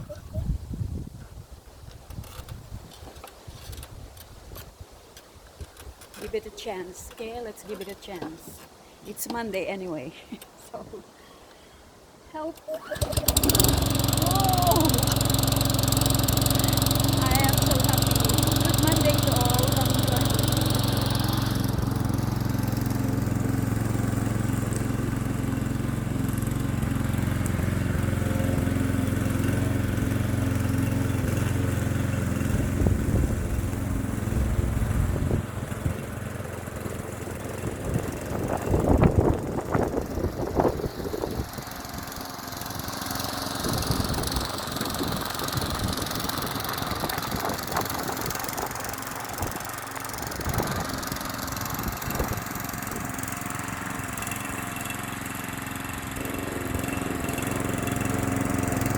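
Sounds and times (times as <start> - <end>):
lawn mower engine running: 5.2 - 10.6, 12.4 - 58.9.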